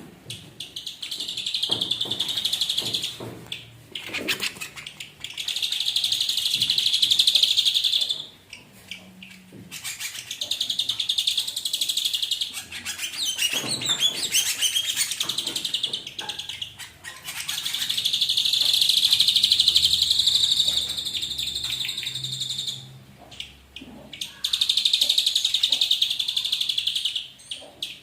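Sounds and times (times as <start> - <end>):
bird singing buzzy trills: 0.6 - 28.0.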